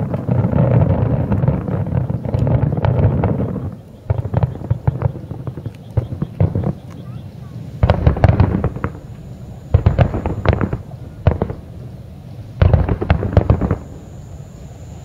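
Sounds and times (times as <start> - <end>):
distant fireworks bursting: 0.0 - 15.0.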